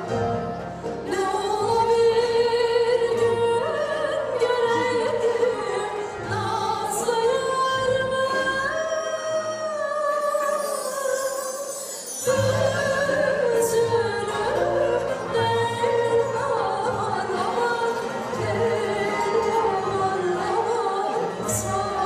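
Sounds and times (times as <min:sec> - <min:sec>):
folk string ensemble: 0:00.0 - 0:10.1, 0:11.8 - 0:22.0
woman singing folk song: 0:01.0 - 0:22.0.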